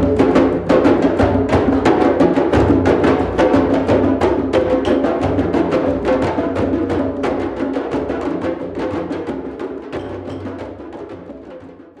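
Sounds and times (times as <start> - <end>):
drum circle playing: 0.0 - 12.0.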